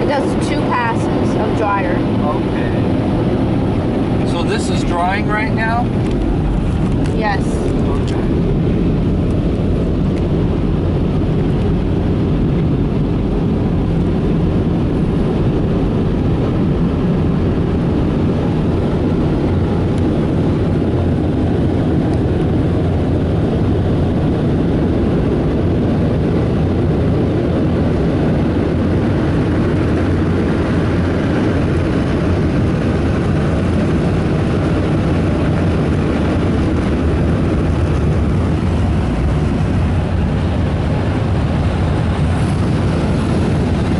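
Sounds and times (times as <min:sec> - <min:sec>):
car wash dryer blowers: 0:00.0 - 0:43.9.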